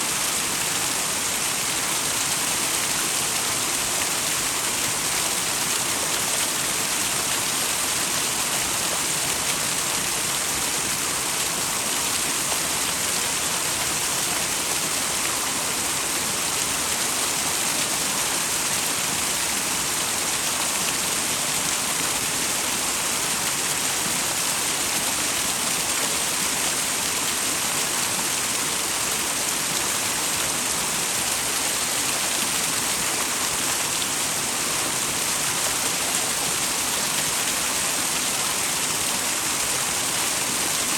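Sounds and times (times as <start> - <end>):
waterfall pouring over rocks: 0.0 - 40.9.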